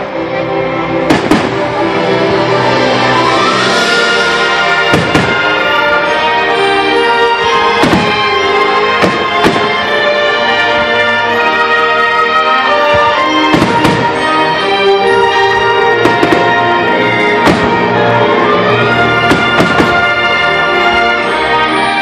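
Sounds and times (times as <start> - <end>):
orchestral music: 0.0 - 22.0
fireworks bursting: 1.1 - 10.8, 12.6 - 21.3.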